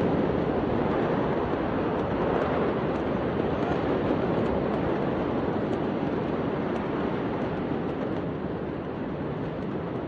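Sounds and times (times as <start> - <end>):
roar of large fire burning: 0.0 - 10.0.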